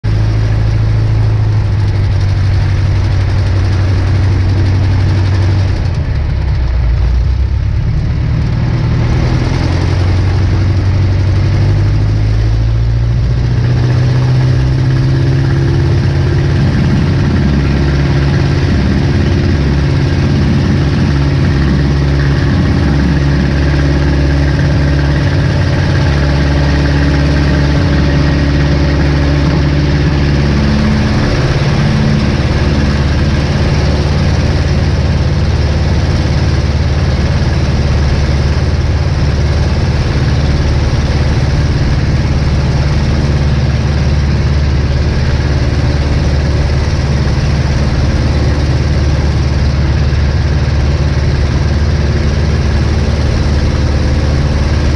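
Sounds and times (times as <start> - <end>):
small plane engine and propeller: 0.0 - 54.9.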